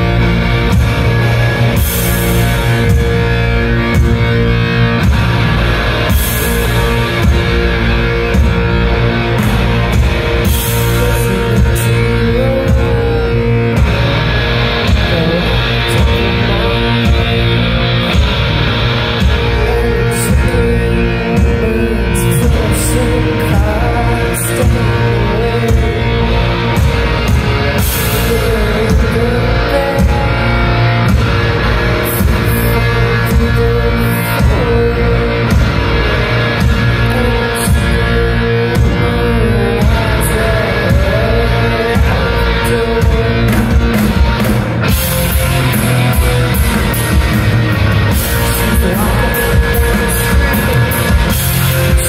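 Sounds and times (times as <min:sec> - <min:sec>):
rock band playing live: 0:00.0 - 0:52.0.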